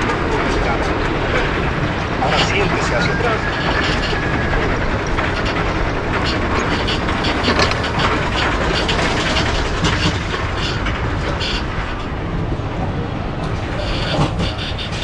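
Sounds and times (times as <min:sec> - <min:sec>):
lift chain rumble: 0:00.0 - 0:15.0
wind on microphone: 0:00.0 - 0:15.0.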